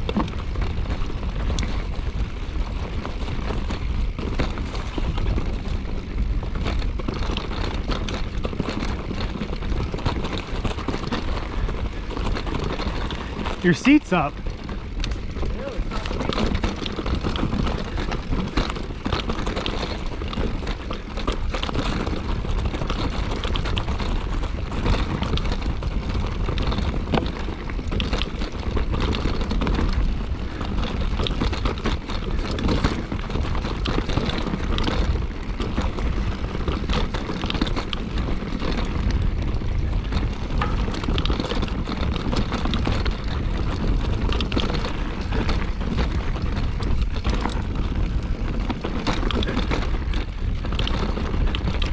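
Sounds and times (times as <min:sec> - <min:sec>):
bike rattling and knocking: 0:00.0 - 0:51.9
wind buffeting microphone: 0:00.0 - 0:51.9.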